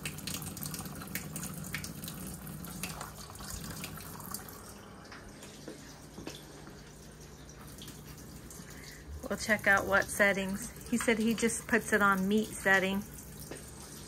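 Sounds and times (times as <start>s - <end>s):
low steady hum: 0.0s - 14.0s
tap water running into sink: 0.0s - 14.0s.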